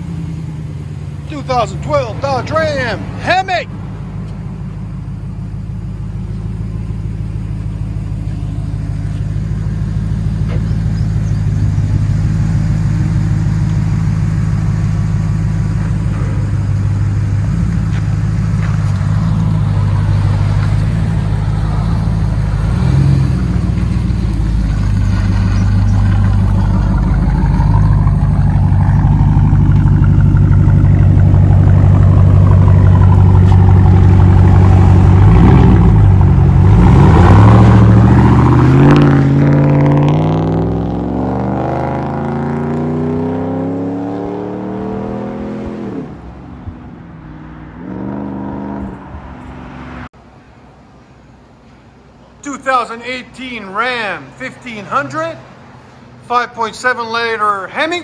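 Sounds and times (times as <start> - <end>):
truck engine exhaust: 0.0 - 49.6.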